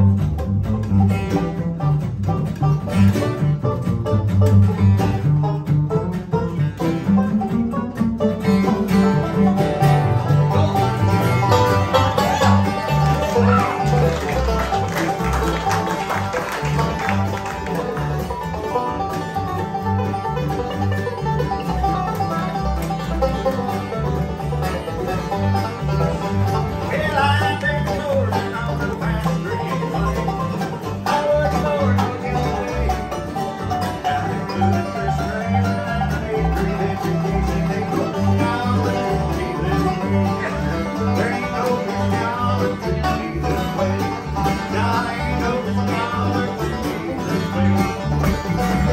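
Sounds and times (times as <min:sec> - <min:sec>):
acoustic guitar: 0:00.0 - 0:48.9
banjo: 0:00.0 - 0:48.9
mandolin: 0:00.0 - 0:48.9
plucked upright bass: 0:00.0 - 0:48.9.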